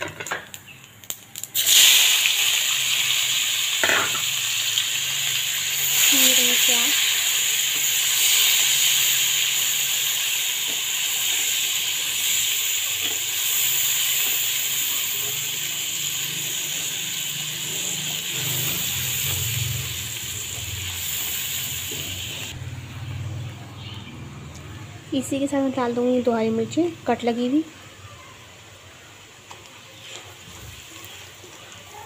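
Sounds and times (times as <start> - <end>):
spices sizzling in hot oil: 0.0 - 22.7, 28.5 - 32.0.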